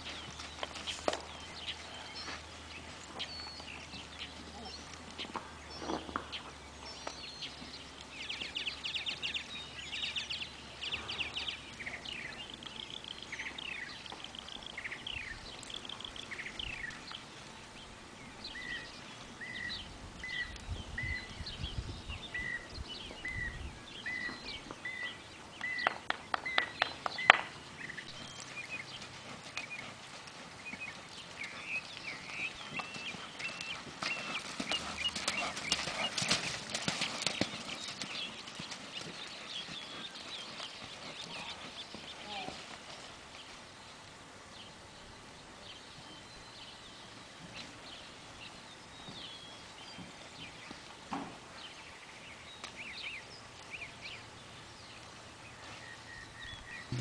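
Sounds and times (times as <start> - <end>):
horse hooves on dirt: 0.0 - 57.0
songbirds chirping: 0.0 - 57.0.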